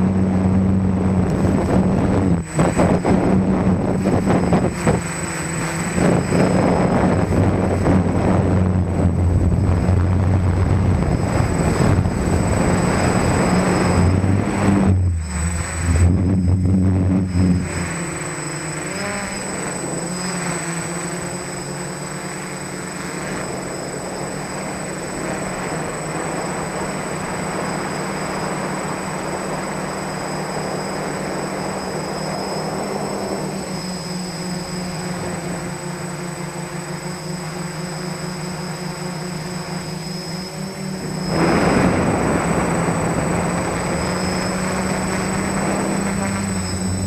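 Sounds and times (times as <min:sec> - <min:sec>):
quadcopter motors humming: 0:00.0 - 0:47.0
thin high whine: 0:00.0 - 0:47.0.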